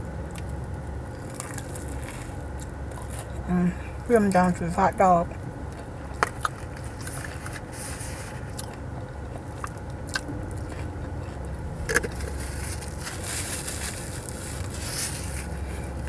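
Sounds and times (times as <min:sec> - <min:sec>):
crunchy crackles: 0:00.0 - 0:04.0, 0:05.3 - 0:16.0
car cabin hum: 0:00.0 - 0:16.0
chewing and biting food: 0:00.3 - 0:03.4, 0:05.7 - 0:16.0.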